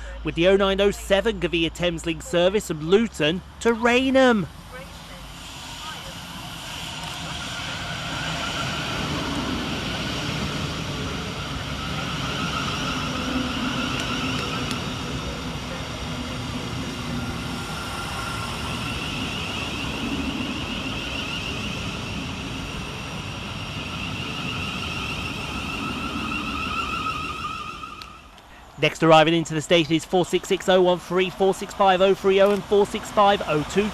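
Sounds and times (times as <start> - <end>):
electric train running with whine: 0.0 - 33.9.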